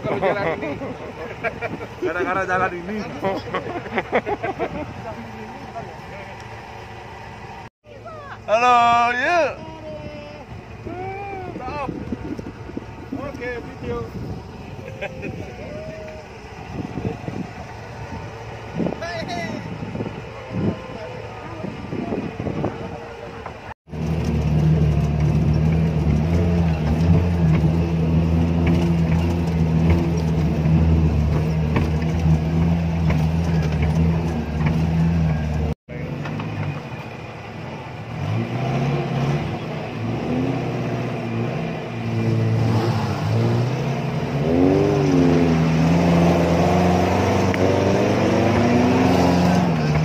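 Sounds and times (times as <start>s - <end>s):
off-road vehicle engine revving: 0.0s - 50.0s.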